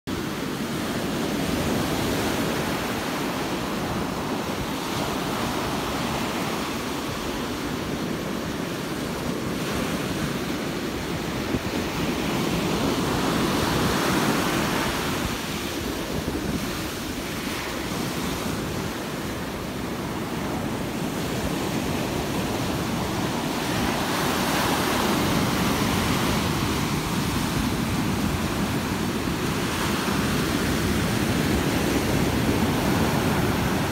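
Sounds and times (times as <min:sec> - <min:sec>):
waves breaking on a beach: 0:00.1 - 0:33.9.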